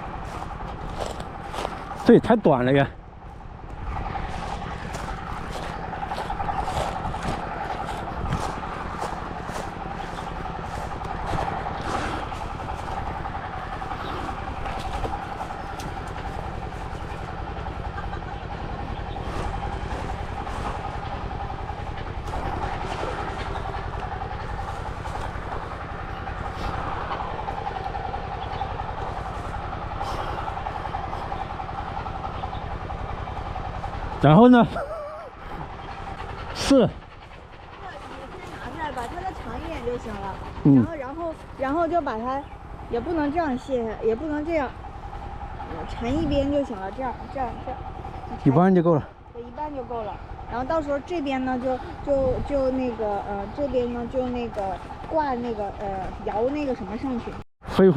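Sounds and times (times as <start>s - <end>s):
engine-like drone: 0.0s - 57.9s.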